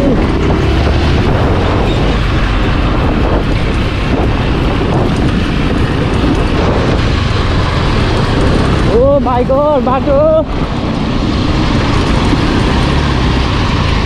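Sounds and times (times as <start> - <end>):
vehicle engine and road rumble: 0.0 - 14.0
wind buffeting the microphone: 0.0 - 14.0.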